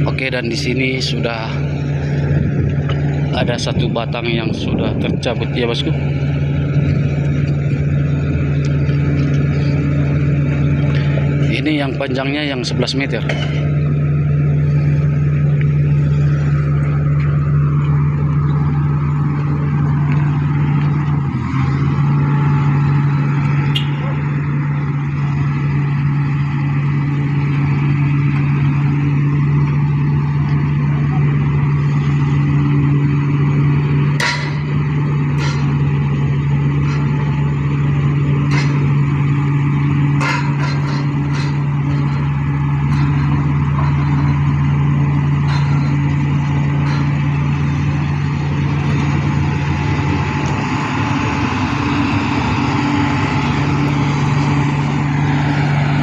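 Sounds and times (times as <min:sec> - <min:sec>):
vibro hammer and excavator hum: 0:00.0 - 0:56.0.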